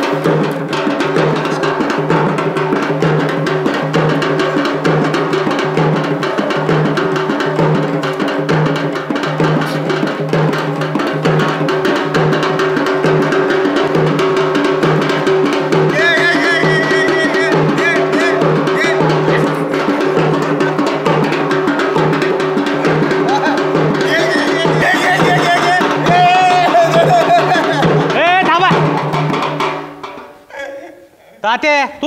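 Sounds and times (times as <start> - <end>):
fast dance drumming: 0.0 - 30.4.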